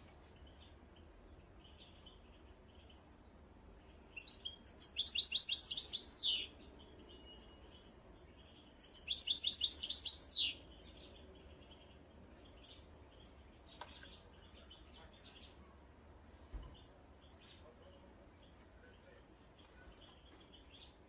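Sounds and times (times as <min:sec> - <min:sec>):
faint birds chirping: 0:00.0 - 0:21.0
songbird singing: 0:00.0 - 0:21.0.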